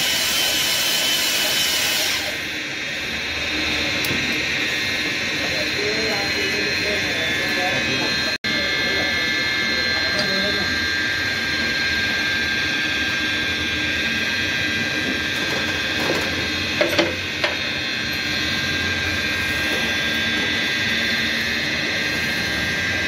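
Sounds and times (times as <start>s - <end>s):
workshop machine whining and humming: 0.0s - 23.0s.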